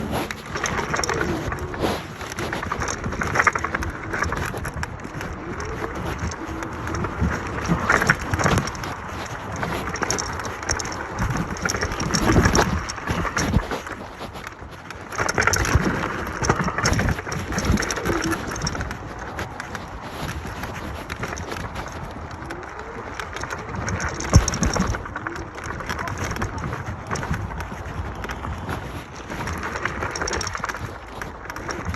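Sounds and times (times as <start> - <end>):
tyres on rough ground: 0.0 - 31.9
wind on microphone: 0.0 - 31.9.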